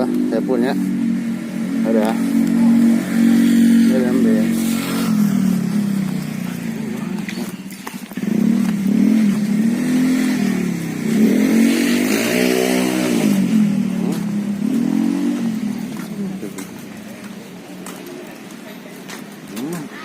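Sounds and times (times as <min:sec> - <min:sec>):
motorcycle engine revving: 0:00.0 - 0:18.3.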